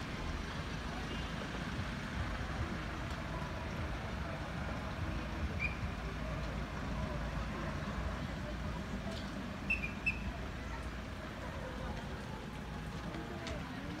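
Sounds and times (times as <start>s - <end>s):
low rumble with hiss: 0.0s - 14.0s.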